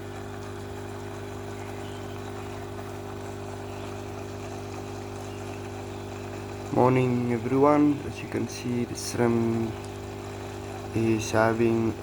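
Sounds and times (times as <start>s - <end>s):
aquarium pump humming: 0.0s - 12.0s.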